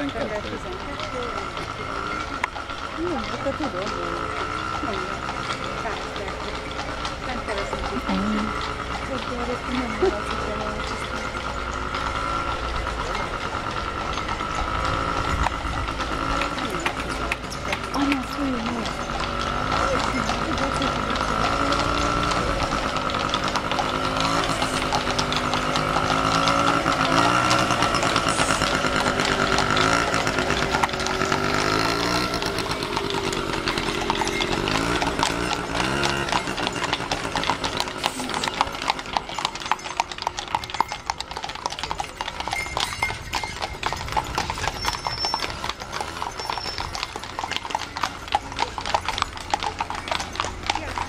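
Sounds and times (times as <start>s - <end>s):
horses hooves on asphalt: 0.0s - 51.0s
motor scooter engine: 0.0s - 51.0s.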